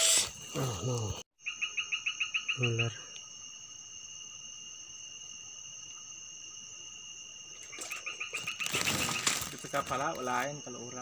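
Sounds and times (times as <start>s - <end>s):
night insects droning: 0.0s - 11.0s.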